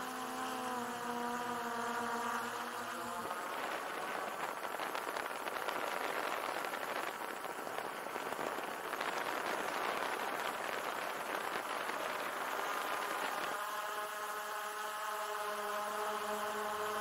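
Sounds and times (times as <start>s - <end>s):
drone rotor downwash rushing: 0.0s - 17.0s.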